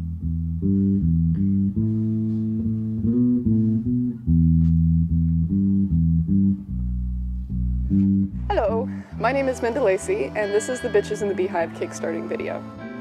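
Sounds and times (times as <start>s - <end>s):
instrumental rock music: 0.0s - 11.2s
bass guitar low notes: 0.0s - 12.6s.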